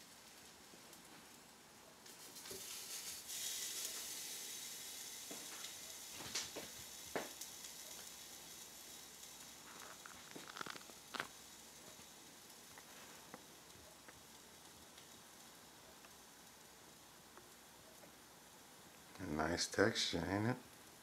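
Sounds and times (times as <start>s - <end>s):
fish sizzling on a grill: 0.0s - 21.0s
sharp pops and crackles: 0.1s - 19.4s.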